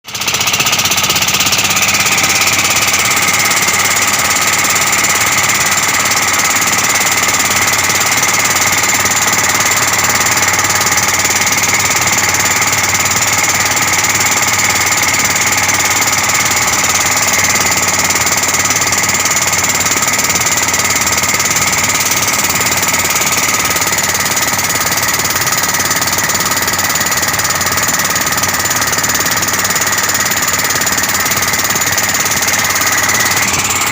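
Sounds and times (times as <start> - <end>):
diesel boat engine running: 0.0 - 33.9.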